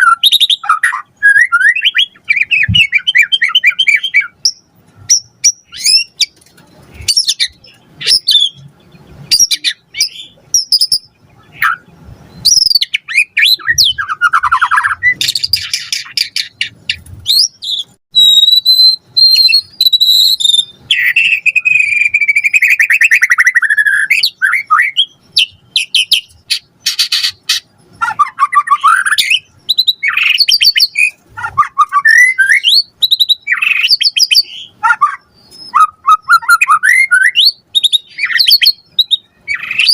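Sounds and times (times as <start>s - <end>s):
songbird whistling and trilling: 0.0s - 6.4s, 7.0s - 39.9s.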